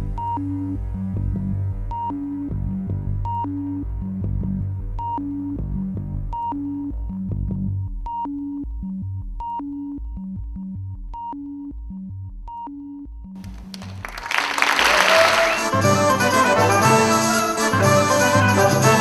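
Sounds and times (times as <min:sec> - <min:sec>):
slow electronic music: 0:00.0 - 0:19.0.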